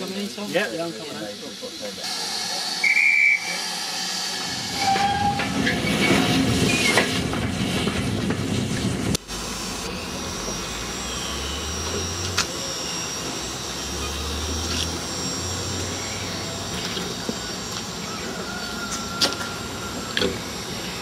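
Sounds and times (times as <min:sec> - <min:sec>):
steady high whine: 0:00.0 - 0:21.0
steam hissing from locomotive: 0:00.0 - 0:21.0.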